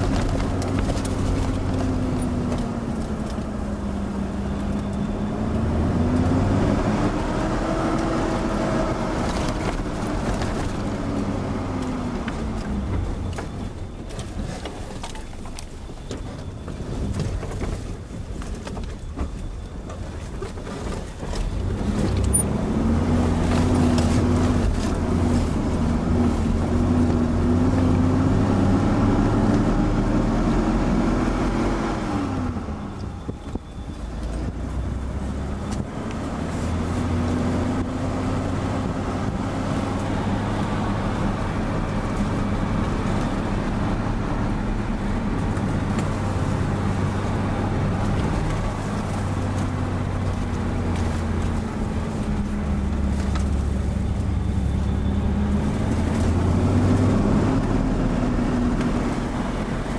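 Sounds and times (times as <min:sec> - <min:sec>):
vehicle engine from inside cabin: 0:00.0 - 0:59.9.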